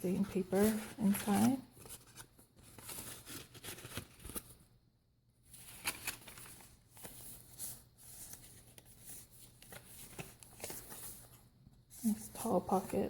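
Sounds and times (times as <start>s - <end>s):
paper rustling: 0.1s - 4.6s, 5.5s - 13.0s.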